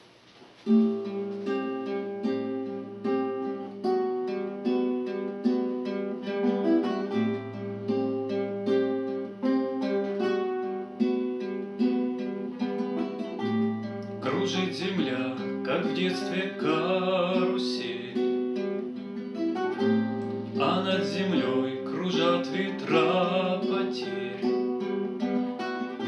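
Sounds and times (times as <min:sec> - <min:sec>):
acoustic guitar chords: 0:00.0 - 0:26.0.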